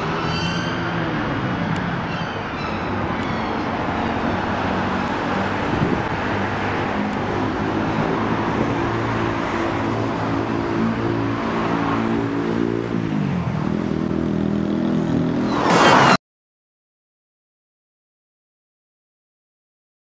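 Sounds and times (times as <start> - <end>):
cars passing on street: 0.0 - 16.2
vehicle engine hum: 0.0 - 16.2.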